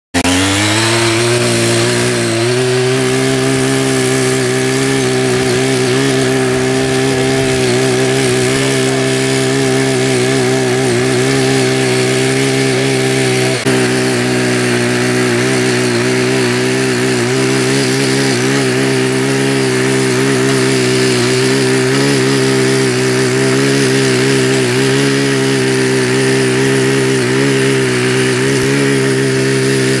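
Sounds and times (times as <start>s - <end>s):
power tiller engine running: 0.1s - 30.0s.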